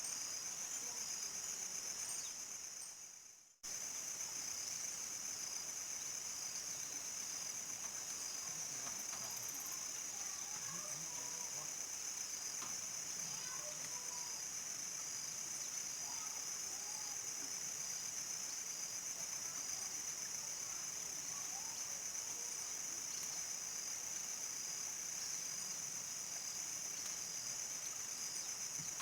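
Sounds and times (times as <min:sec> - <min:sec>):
crickets chirping: 0:00.0 - 0:29.0
faint soft insect calls: 0:00.0 - 0:29.0.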